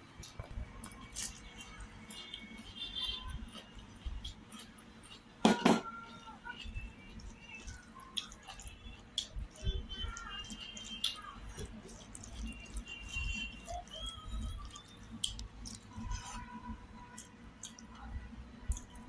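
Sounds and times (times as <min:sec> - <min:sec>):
fingers squishing rice: 0:00.0 - 0:19.0.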